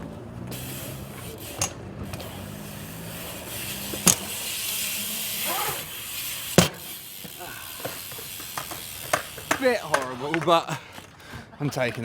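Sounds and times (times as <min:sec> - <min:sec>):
bike tyres rolling on concrete: 0:00.0 - 0:12.0
bike landing knocks: 0:01.1 - 0:11.1.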